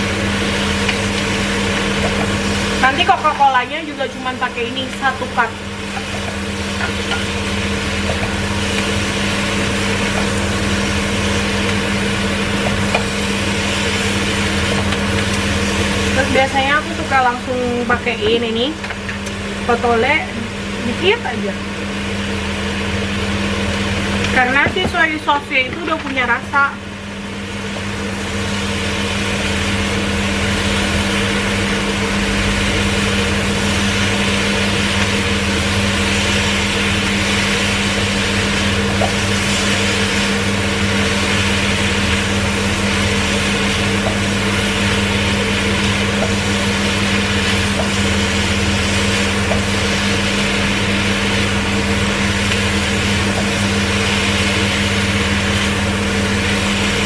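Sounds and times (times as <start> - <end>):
meat sizzling in a wok: 0.0 - 57.0
range hood fan humming: 0.0 - 57.0.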